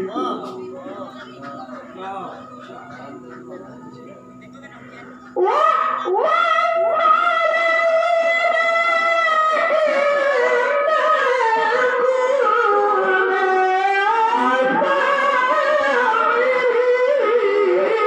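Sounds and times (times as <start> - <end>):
person reciting melodically: 0.0 - 18.0.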